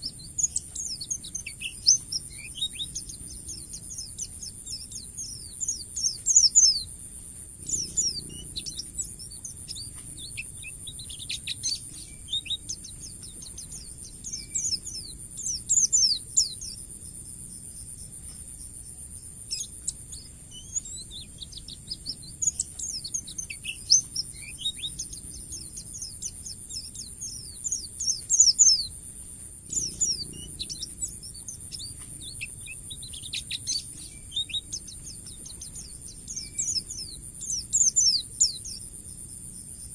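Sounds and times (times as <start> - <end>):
bird singing rapid chirps: 0.0 - 39.9
steady high-pitched hiss: 0.0 - 39.9.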